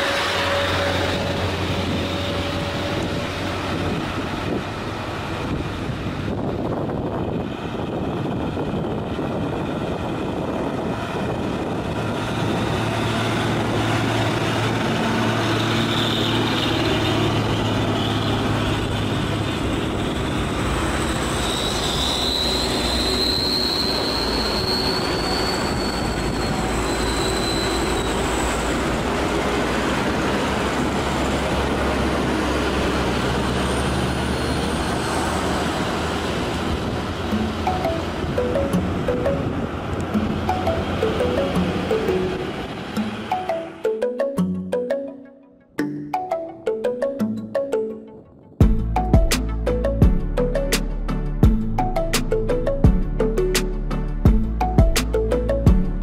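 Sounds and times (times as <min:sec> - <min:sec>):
trucks grinding uphill: 0:00.0 - 0:45.3.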